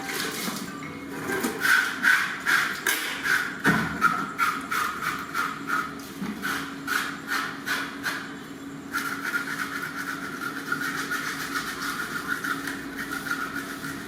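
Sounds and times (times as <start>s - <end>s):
knife scraping meat: 1.6s - 8.3s, 9.0s - 14.0s.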